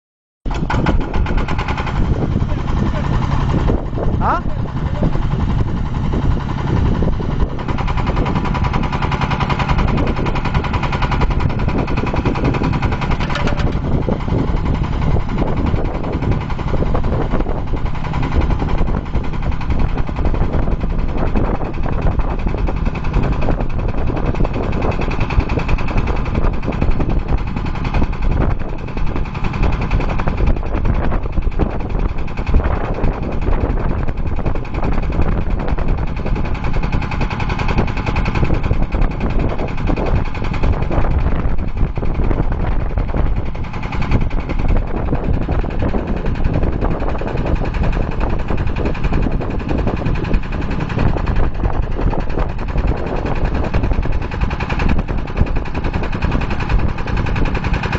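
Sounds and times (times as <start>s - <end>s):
drilling rig clattering knocks: 0.5s - 57.9s.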